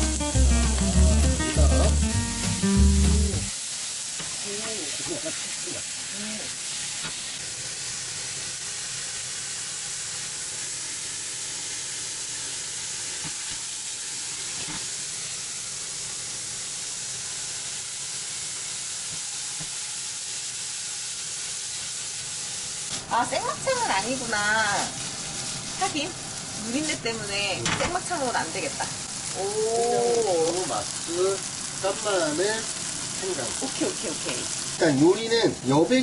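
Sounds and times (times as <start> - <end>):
meat sizzling in a hot pan: 0.0 - 36.0.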